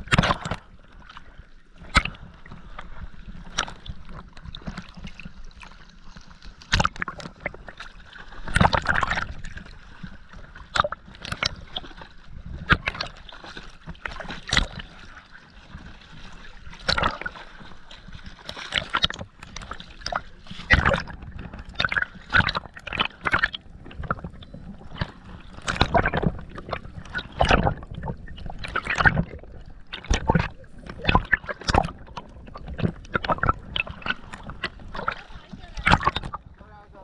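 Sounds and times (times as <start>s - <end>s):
water gurgling and sloshing: 0.0s - 37.0s.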